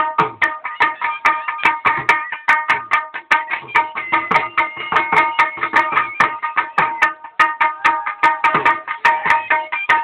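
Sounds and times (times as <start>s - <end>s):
background music with quick drums: 0.0s - 10.0s.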